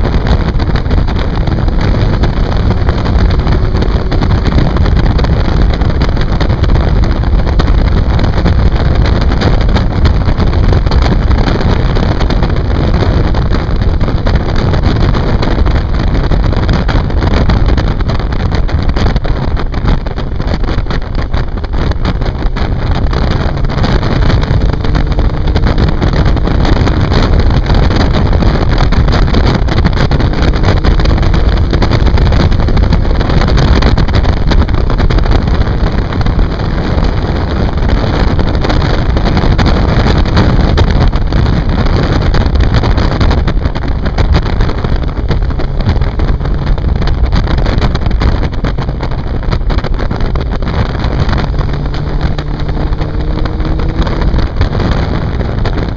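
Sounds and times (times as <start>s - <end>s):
motorcycle engine drone: 0.0s - 55.9s
wind rush on microphone: 0.0s - 55.9s.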